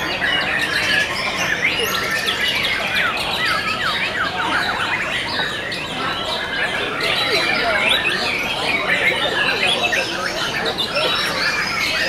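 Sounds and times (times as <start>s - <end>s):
songbirds whistling and chirping: 0.0s - 12.0s.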